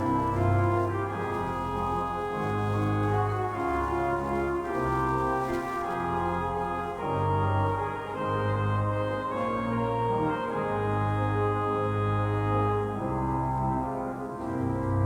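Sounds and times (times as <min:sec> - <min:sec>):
organ playing held chords: 0:00.0 - 0:15.0.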